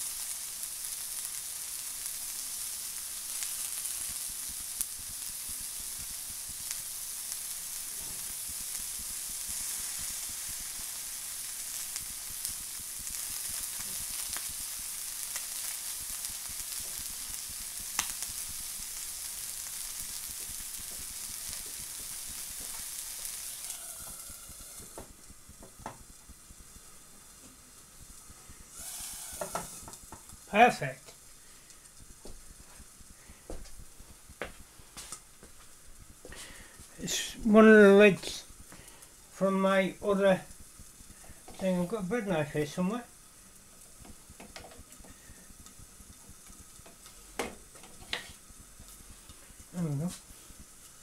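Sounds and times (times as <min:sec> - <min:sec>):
burger sizzling in a frying pan: 0:00.0 - 0:51.0.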